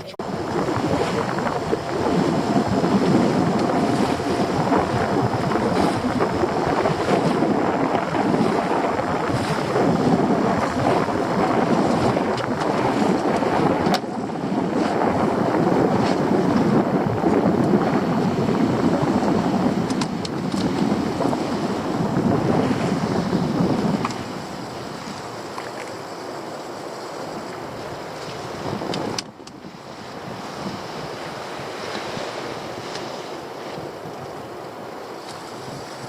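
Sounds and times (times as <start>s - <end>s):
boat engine running: 0.0s - 36.0s
water rushing past hull: 0.0s - 36.0s
wind buffeting microphone: 0.0s - 36.0s.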